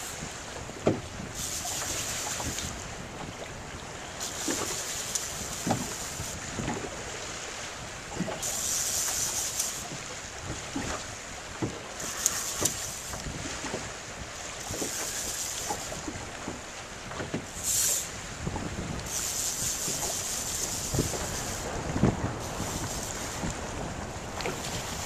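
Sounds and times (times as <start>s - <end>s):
small waves splashing: 0.0s - 25.0s
wind rushing across microphone: 0.0s - 25.0s.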